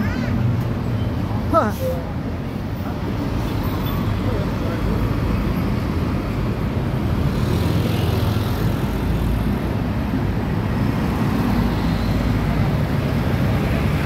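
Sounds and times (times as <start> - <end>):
slow road traffic rumble: 0.0 - 14.0.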